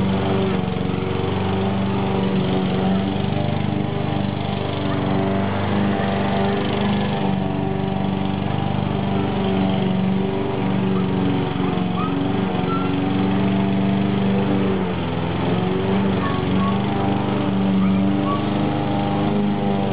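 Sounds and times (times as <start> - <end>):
lawnmower engine running: 0.0 - 19.9.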